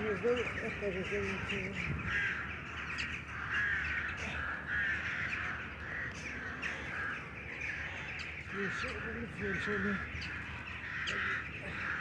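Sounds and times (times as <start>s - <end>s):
crows cawing: 0.0s - 12.0s.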